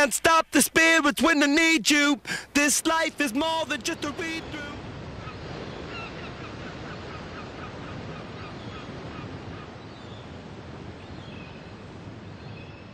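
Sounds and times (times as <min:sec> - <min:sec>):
wind: 0:00.0 - 0:12.9
sea noise: 0:01.9 - 0:12.9.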